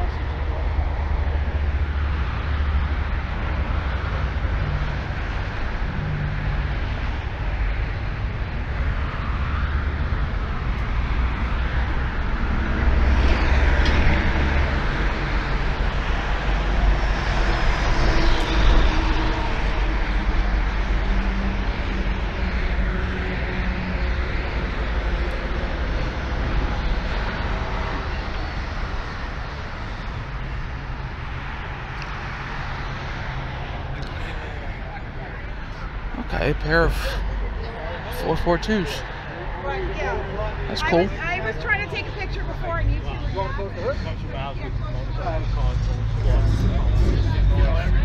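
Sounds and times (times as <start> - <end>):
low rumble of traffic: 0.0 - 48.0.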